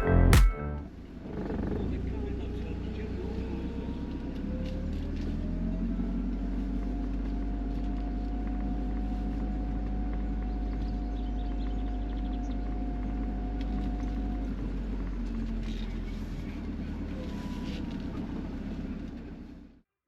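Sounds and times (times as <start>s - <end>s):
car engine and road noise: 0.0s - 19.8s.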